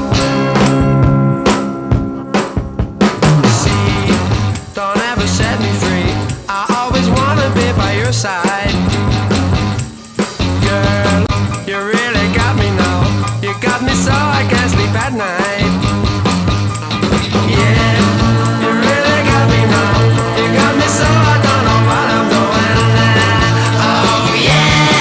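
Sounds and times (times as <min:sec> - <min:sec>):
rock song with bass line: 0:00.0 - 0:25.0.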